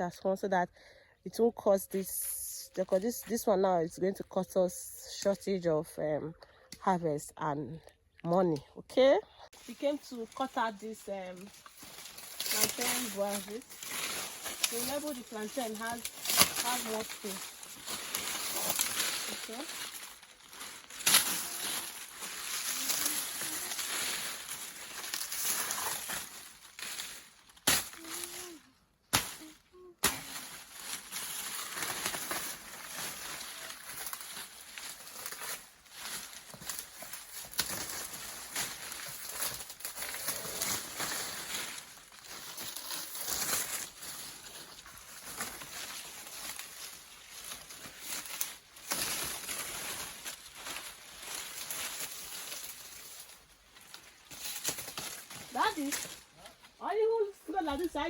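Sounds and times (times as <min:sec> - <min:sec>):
dry leaves crunching and rustling: 0:09.5 - 0:58.0.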